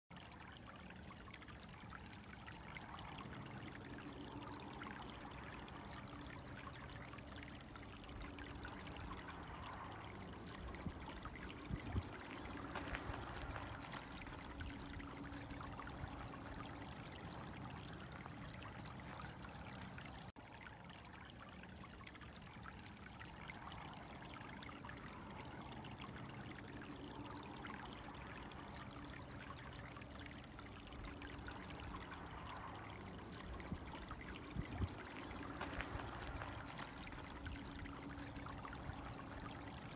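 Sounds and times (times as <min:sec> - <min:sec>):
water trickling: 0:00.1 - 0:39.9
low hum: 0:00.2 - 0:20.4, 0:22.4 - 0:39.9.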